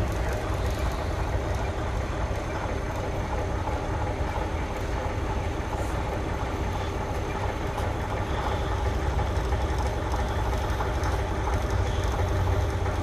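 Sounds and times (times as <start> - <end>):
diesel locomotive idling: 0.0 - 13.0.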